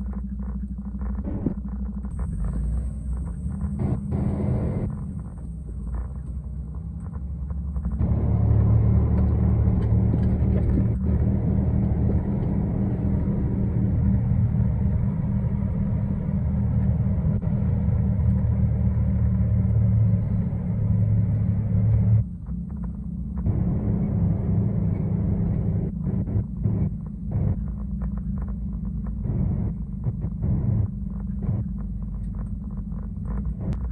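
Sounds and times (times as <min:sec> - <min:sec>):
diesel truck engine rumble: 0:00.0 - 0:33.9.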